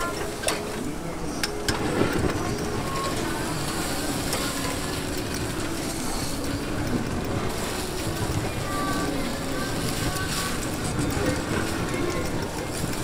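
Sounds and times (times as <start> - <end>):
fire flaring and fat sizzling: 0.0 - 13.0.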